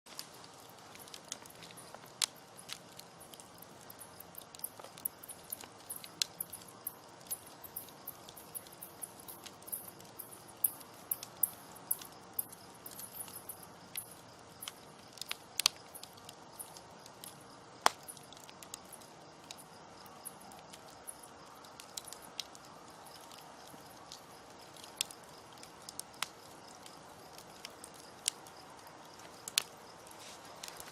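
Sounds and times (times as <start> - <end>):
campfire crackling and popping: 0.1 - 30.9.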